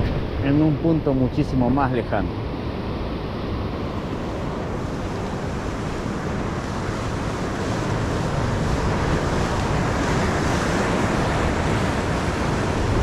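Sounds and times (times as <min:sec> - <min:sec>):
surf washing onto shore: 0:00.0 - 0:13.0
wind rumbling on microphone: 0:00.0 - 0:13.0.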